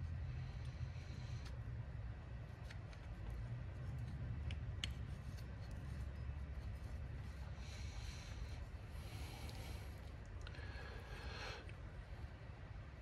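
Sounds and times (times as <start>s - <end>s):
low room tone hum: 0.0s - 13.0s.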